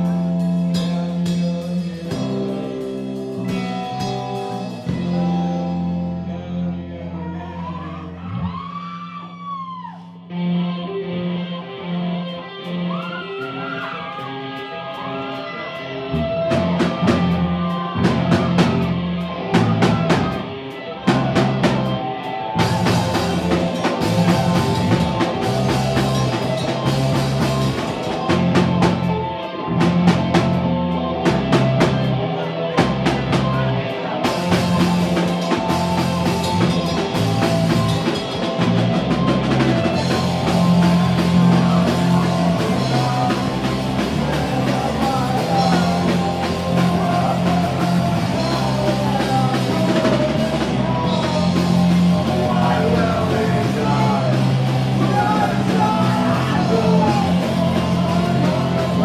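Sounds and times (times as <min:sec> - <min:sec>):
drum kit: 0:00.0 - 0:06.5, 0:13.0 - 0:59.0
electric guitars: 0:00.0 - 0:59.0.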